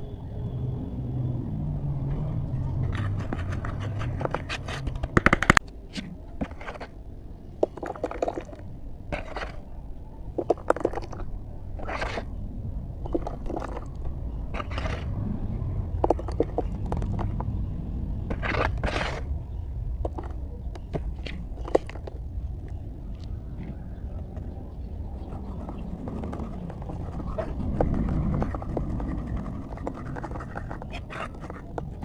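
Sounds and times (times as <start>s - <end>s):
steady low rumble: 0.0s - 7.6s, 11.2s - 32.0s
crackly crunching and scraping: 2.6s - 12.4s, 13.0s - 32.0s.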